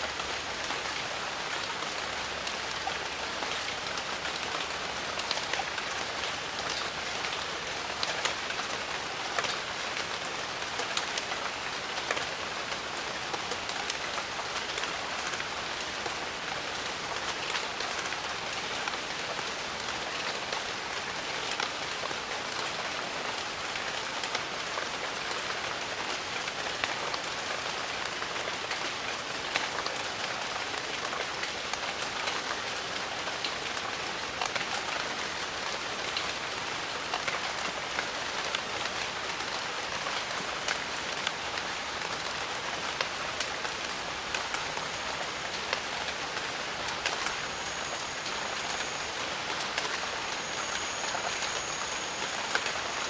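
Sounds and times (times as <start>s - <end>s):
heavy rain on foliage: 0.0s - 53.0s.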